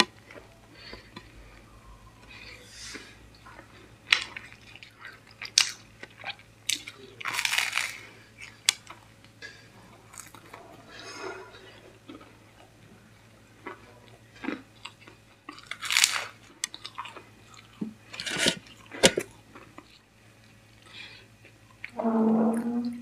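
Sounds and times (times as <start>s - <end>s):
crunchy pastry being chewed: 0.0s - 22.0s.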